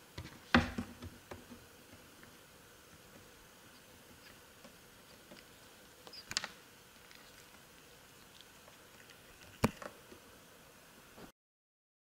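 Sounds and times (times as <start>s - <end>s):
faint room hiss: 0.0s - 11.3s.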